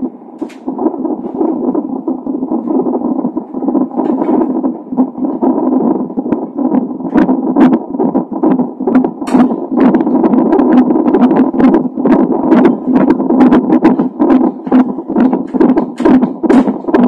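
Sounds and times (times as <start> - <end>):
whooshing heartbeat pulse: 0.0 - 17.0.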